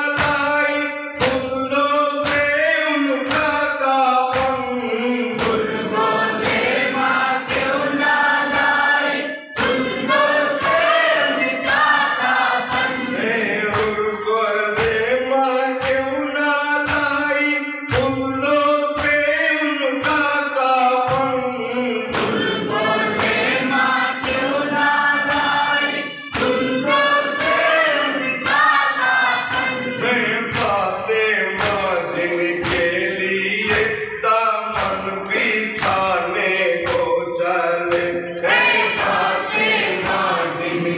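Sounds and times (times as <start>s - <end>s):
men chanting a lament: 0.0s - 40.9s
rhythmic chest-beating slaps: 0.0s - 40.9s.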